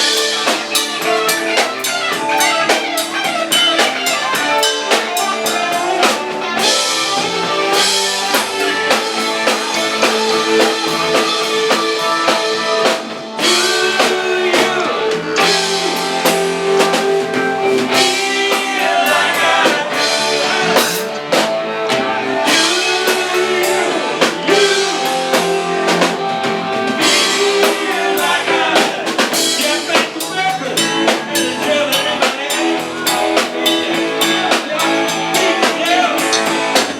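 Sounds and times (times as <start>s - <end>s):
bass guitar: 0.0s - 36.9s
drum kit: 0.0s - 36.9s
electric guitar: 0.0s - 36.9s.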